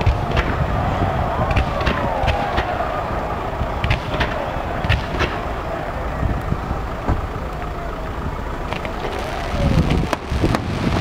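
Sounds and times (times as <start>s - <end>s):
fireworks bangs and crackles: 0.0s - 7.7s, 8.4s - 11.0s
steady rumble: 0.0s - 11.0s.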